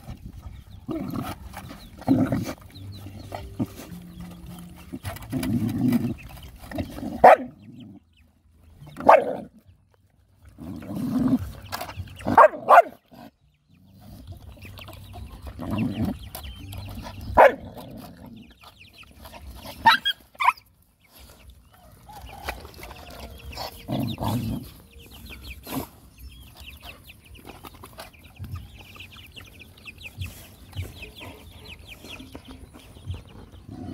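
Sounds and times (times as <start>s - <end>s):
dogs lapping and chewing: 0.0s - 33.9s.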